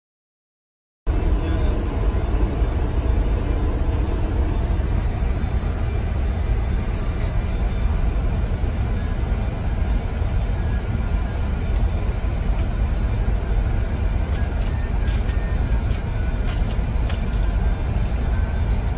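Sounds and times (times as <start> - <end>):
cockpit rumble and hiss: 1.1 - 18.9.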